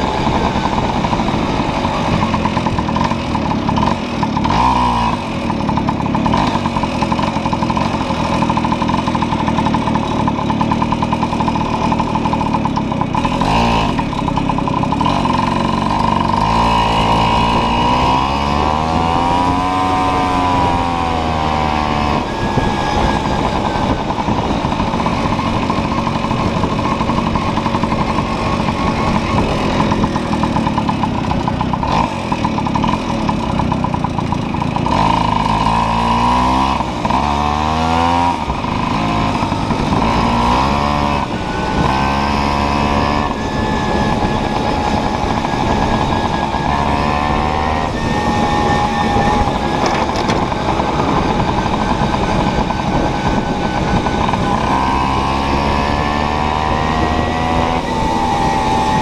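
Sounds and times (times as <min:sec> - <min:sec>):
moped two-stroke engine revving: 0:00.0 - 0:59.0.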